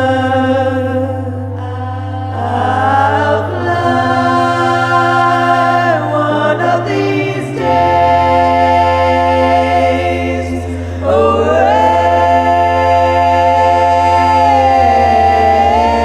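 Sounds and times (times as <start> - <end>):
low bass drone: 0.0 - 16.0
wordless choir-like vocals: 0.0 - 16.0.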